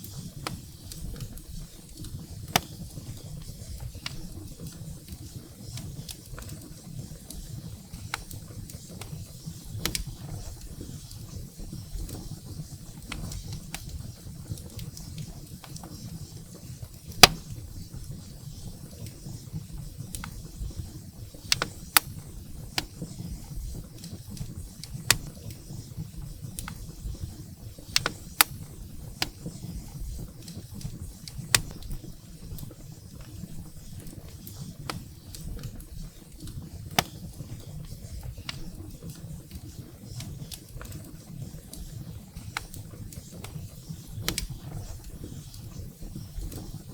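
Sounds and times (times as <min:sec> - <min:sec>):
firewood crackling and popping: 0:00.0 - 0:46.9
low rumble of flames: 0:00.0 - 0:46.9.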